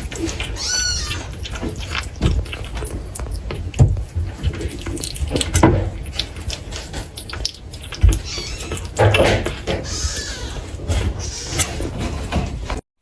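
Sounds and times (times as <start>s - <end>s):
kittens eating: 0.0s - 12.8s.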